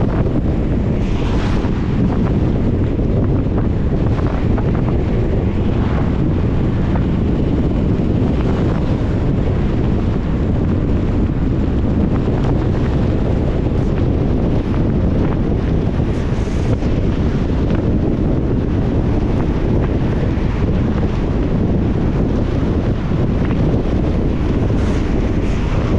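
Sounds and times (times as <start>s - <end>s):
tyre noise on wet road: 0.0s - 25.9s
wind on microphone: 0.0s - 25.9s.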